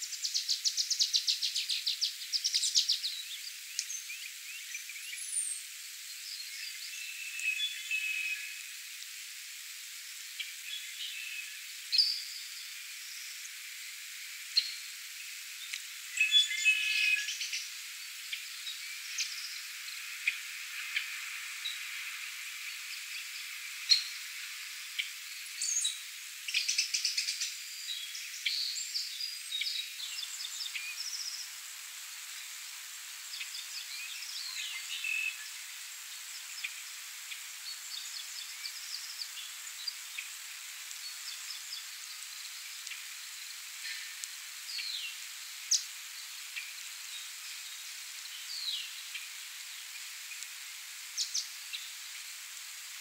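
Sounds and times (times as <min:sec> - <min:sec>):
songbirds chirping and trilling: 0:00.0 - 0:08.7, 0:10.1 - 0:52.3
light rain falling on a pond: 0:00.0 - 0:53.0.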